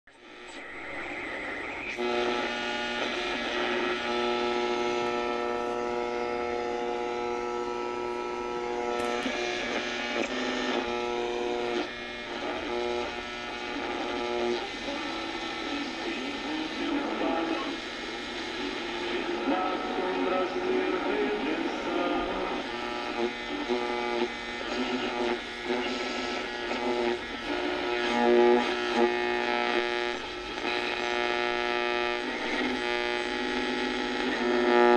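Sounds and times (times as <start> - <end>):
radio buzzing hum: 0.1 - 34.9
radio hiss and static: 0.1 - 34.9.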